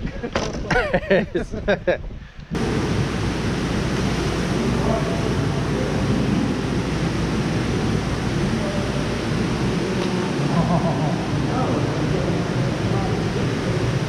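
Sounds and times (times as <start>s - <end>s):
low hum: 2.4s - 14.0s
running water and equipment: 2.6s - 14.0s.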